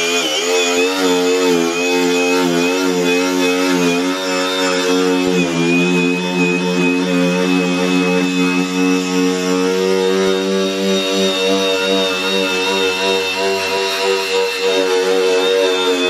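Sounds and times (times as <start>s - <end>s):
angle grinder running: 0.0s - 16.0s.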